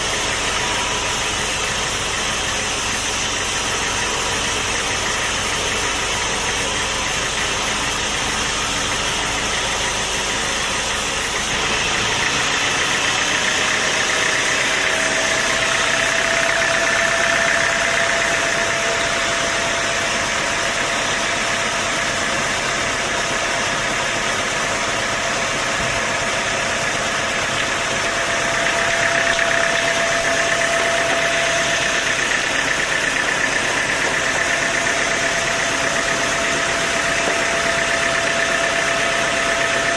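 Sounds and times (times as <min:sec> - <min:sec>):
sawmill machinery running: 0:00.0 - 0:39.9
steady machine whine: 0:00.0 - 0:39.9.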